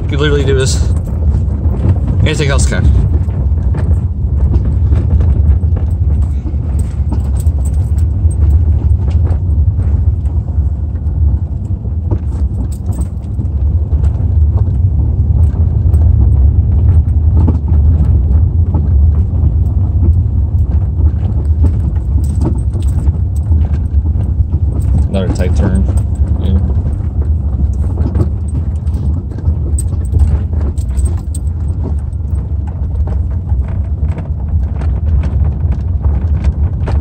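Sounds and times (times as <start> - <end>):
car knocks and rattles: 0.0 - 37.0
low rumble of tyres and engine: 0.0 - 37.0.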